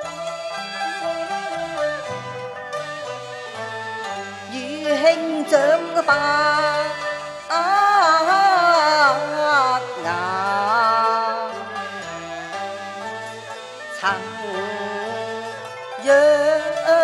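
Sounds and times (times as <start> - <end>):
woman singing opera: 0.0 - 2.2, 4.5 - 13.3, 14.0 - 17.0
opera ensemble accompaniment: 0.0 - 17.0.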